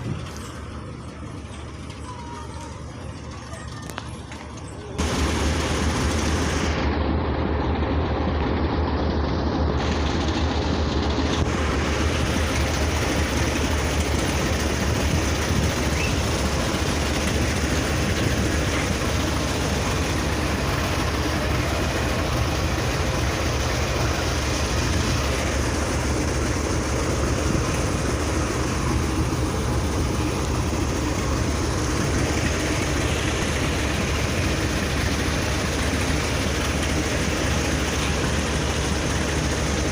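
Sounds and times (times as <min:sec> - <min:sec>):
diesel train rumbling: 0:00.0 - 0:39.9.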